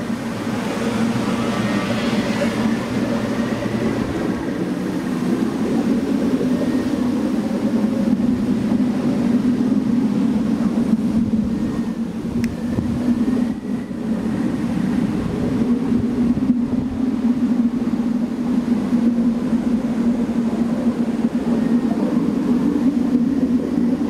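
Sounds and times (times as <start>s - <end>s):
faint high gliding tones: 0.0s - 24.0s
low electronic drone: 0.0s - 24.0s.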